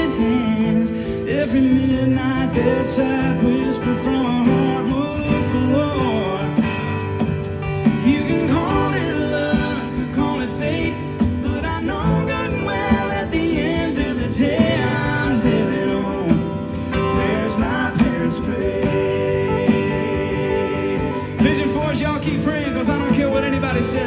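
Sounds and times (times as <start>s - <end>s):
band accompaniment with guitar: 0.0s - 24.0s
gospel quartet singing: 0.0s - 24.0s.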